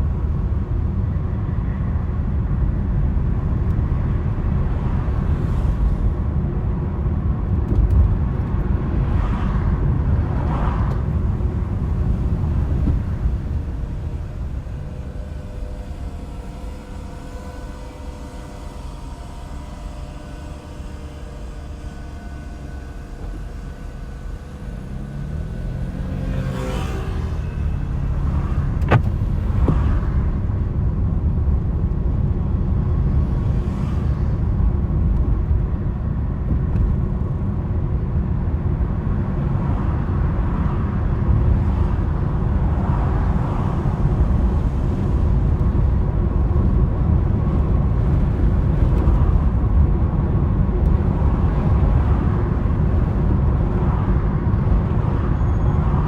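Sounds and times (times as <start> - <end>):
car engine accelerating: 0.0 - 56.0
road noise rumble: 0.0 - 56.0.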